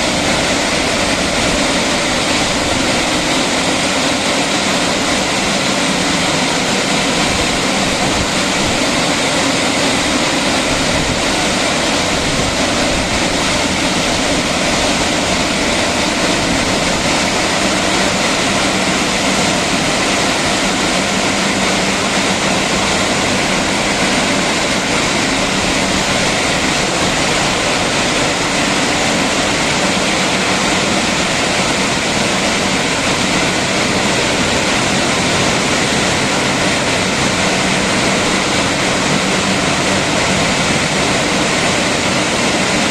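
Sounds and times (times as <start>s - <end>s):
hissing water spray: 0.0s - 42.9s.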